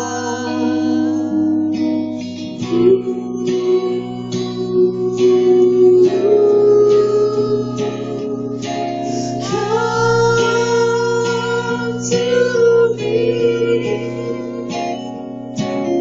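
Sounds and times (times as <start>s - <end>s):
electric guitar: 0.0s - 16.0s.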